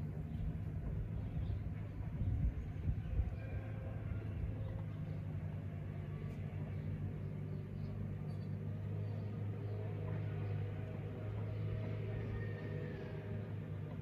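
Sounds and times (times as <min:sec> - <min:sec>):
low rumbling hum: 0:00.0 - 0:14.0.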